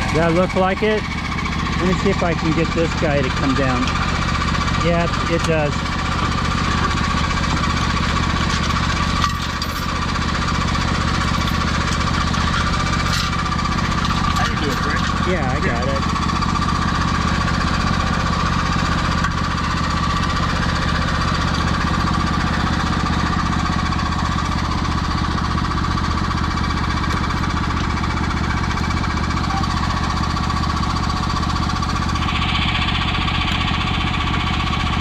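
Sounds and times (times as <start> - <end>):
tractor engine clattering: 0.0 - 35.0.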